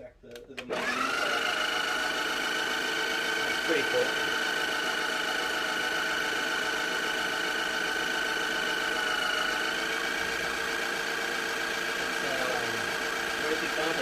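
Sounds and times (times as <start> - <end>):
grinder motor whining: 0.6 - 14.0.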